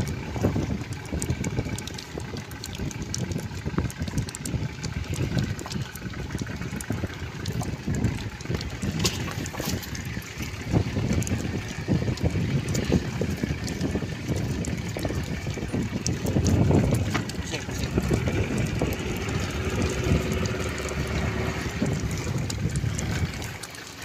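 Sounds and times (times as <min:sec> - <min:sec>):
small water splashes: 0:00.0 - 0:24.0
waves slapping against hull: 0:00.0 - 0:24.0
wind buffeting microphone: 0:00.0 - 0:24.0.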